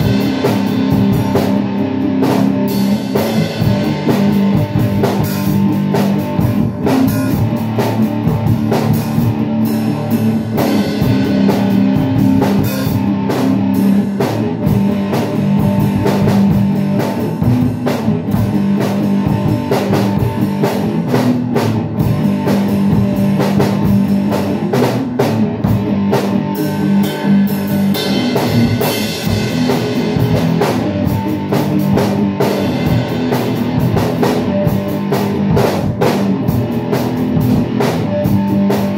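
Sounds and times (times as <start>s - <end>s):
drum beat: 0.0s - 38.9s
electric guitar: 0.0s - 38.9s.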